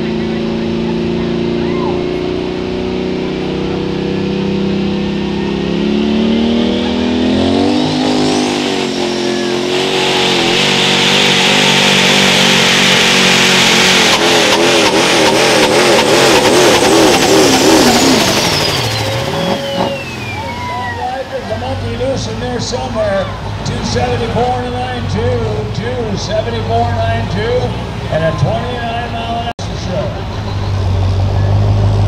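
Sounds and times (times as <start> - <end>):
diesel truck engine at full throttle: 0.0 - 32.0
high turbo whine: 0.0 - 32.0.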